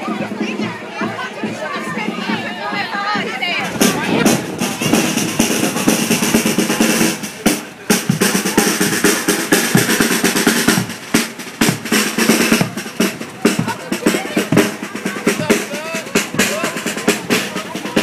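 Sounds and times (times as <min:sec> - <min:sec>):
side drum: 0:00.0 - 0:18.0
bass drum: 0:00.6 - 0:18.0.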